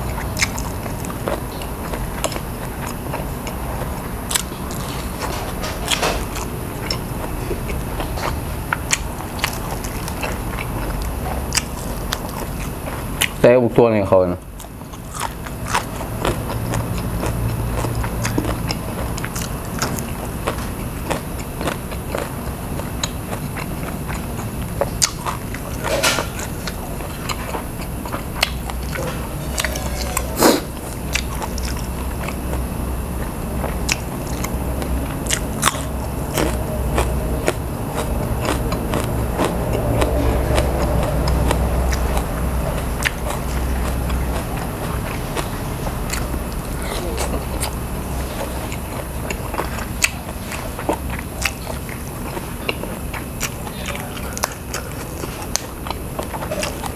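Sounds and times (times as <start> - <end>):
person chewing food: 0.0 - 13.4, 14.4 - 56.9
low background hum: 0.0 - 56.9.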